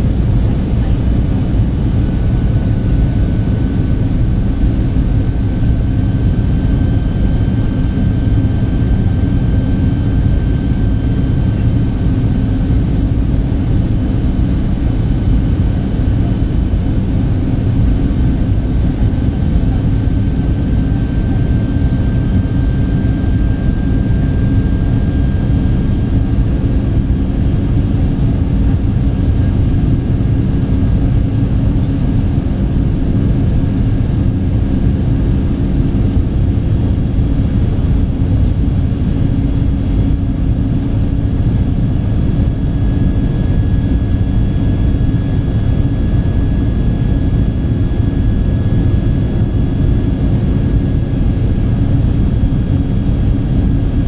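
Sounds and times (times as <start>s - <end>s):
aircraft engines roaring: 0.0s - 54.0s.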